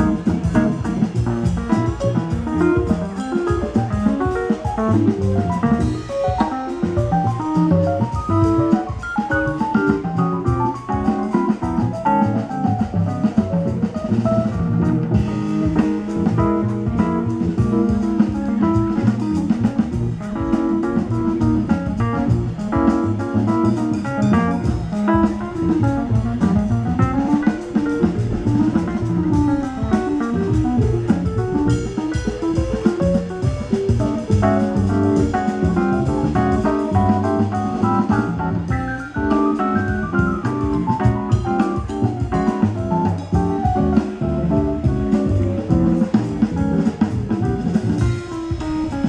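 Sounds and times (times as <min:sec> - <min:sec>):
drum kit beat: 0:00.0 - 0:49.0
jazz band through speakers: 0:00.0 - 0:49.0.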